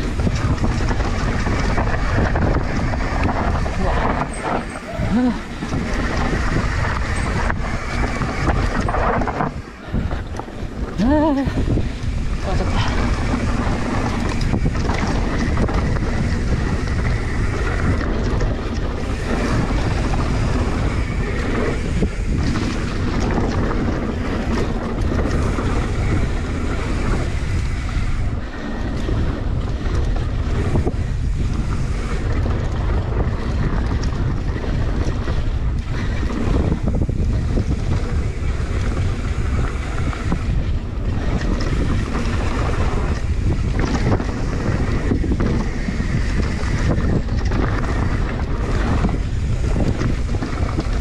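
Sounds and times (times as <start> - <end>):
bike rolling on dirt trail: 0.0 - 51.0
wind buffeting microphone: 0.0 - 51.0.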